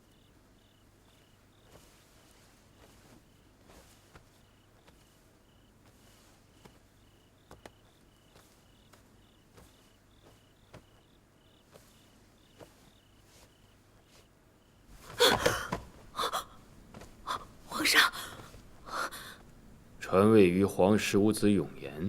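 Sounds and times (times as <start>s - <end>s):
cricket chirping: 0.0s - 19.5s.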